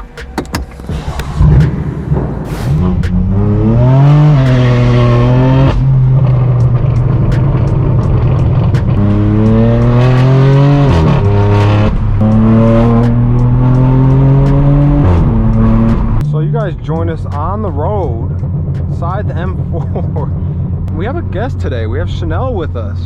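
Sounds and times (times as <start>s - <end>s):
loud car engine accelerating: 1.0s - 23.0s.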